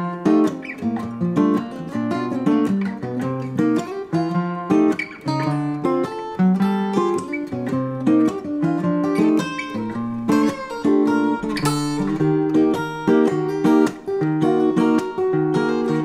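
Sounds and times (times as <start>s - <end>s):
acoustic guitar picked melody: 0.0s - 16.0s
acoustic guitar strummed chords: 0.0s - 16.0s.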